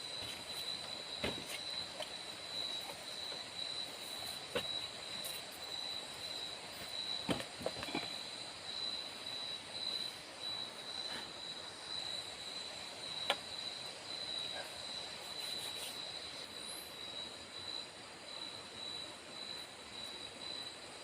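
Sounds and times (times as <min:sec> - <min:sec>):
crickets droning: 0:00.0 - 0:21.0.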